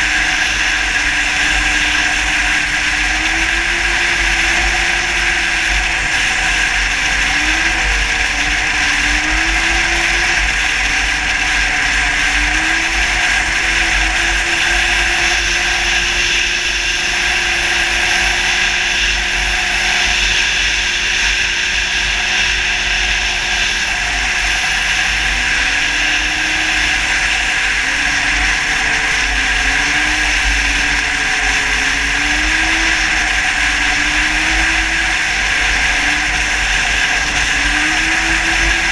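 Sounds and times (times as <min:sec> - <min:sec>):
snowmobile engine running hard: 0:00.0 - 0:38.9
wind and track noise: 0:00.0 - 0:38.9.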